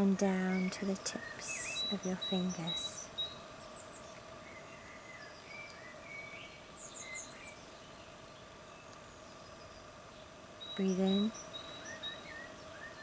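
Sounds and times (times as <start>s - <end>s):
birds chirping: 0.0s - 13.0s
faint steady hum: 0.0s - 13.0s.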